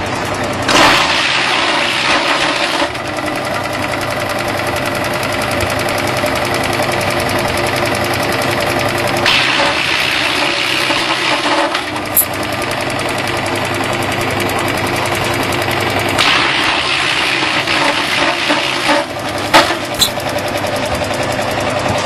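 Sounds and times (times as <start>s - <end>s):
wood chipper grinding branches: 0.0s - 22.0s.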